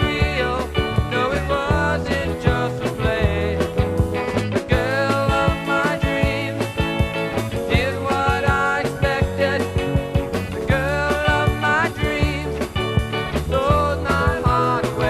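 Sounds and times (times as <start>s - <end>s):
pop-rock song with vocals: 0.0s - 15.0s.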